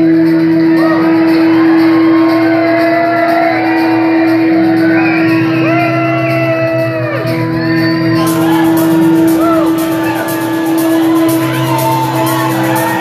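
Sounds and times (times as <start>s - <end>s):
electric guitar lead with bent notes: 0.0s - 13.0s.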